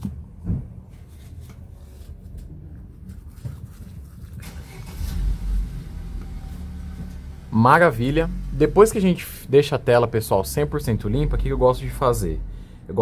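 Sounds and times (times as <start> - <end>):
low steady background hum: 0.0 - 13.0.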